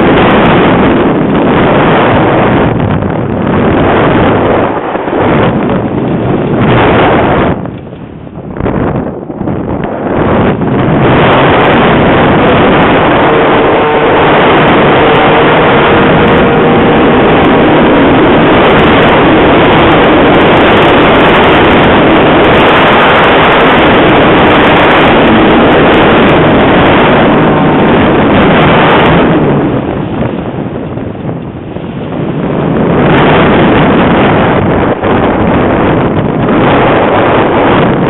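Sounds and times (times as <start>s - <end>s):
strong wind buffeting microphone: 0.0s - 38.0s.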